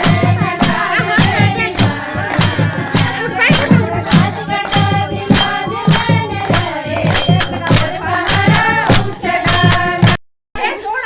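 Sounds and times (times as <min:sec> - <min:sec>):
drum beat: 0:00.0 - 0:10.2
people singing: 0:00.0 - 0:10.8
jingling percussion: 0:00.0 - 0:11.0.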